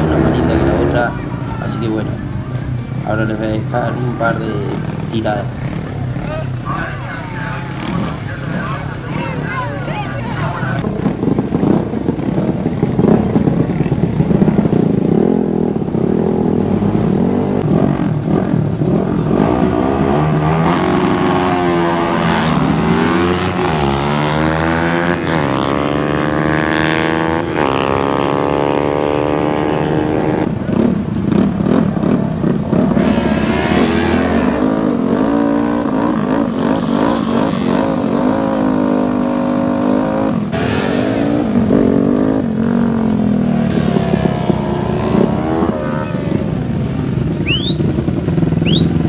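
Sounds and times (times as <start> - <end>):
racing motorcycles accelerating: 0.0 - 49.0.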